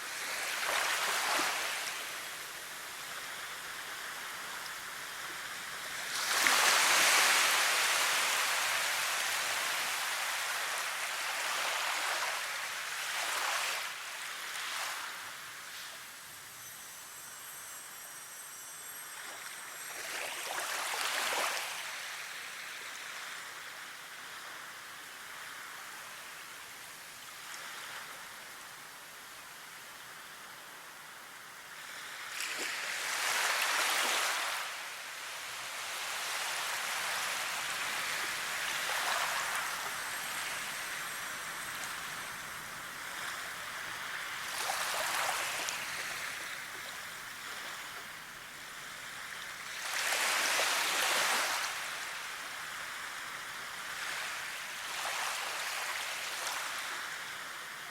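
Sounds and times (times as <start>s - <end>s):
waves washing on shore: 0.0s - 16.5s, 19.2s - 23.2s, 31.8s - 57.9s.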